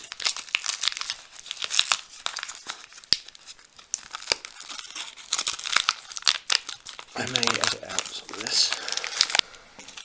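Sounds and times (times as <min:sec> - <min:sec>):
plastic pouch crinkling and tearing: 0:00.0 - 0:10.0.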